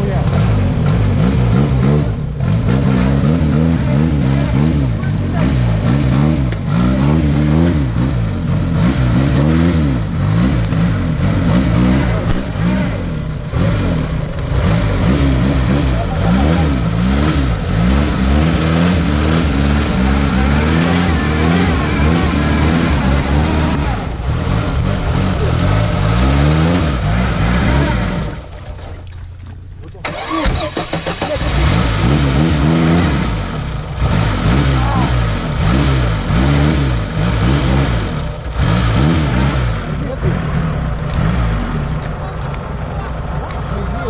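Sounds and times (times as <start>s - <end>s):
engine revving hard: 0.0s - 28.5s, 30.0s - 44.0s.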